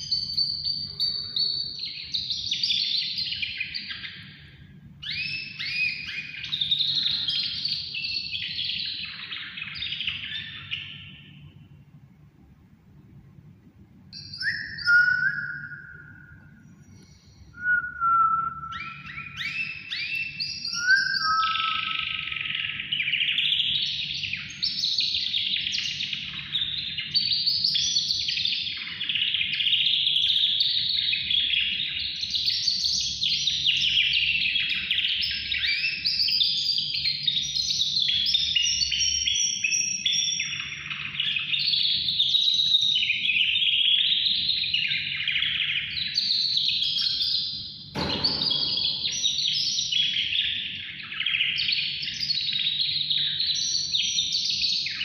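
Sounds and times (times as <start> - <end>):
songbird singing trills: 0.0 - 12.0, 14.1 - 55.0.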